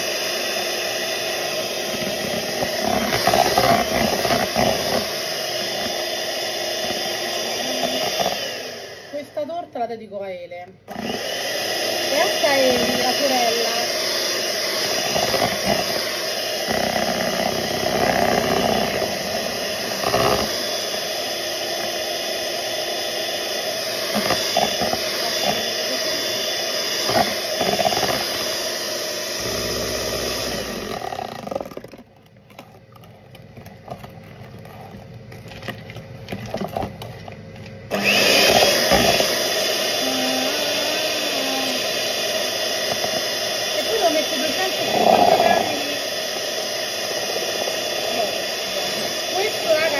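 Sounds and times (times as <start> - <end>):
electric mixer whipping milk: 0.0 - 10.0, 10.8 - 49.9.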